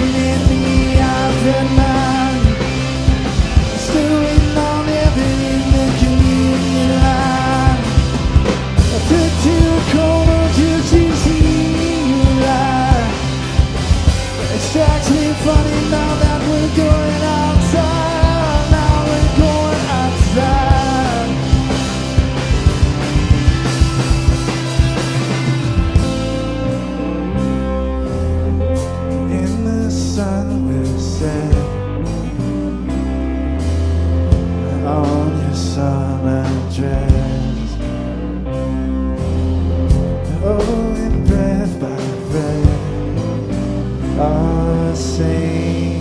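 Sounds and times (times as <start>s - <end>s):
live rock band playing: 0.0s - 46.0s.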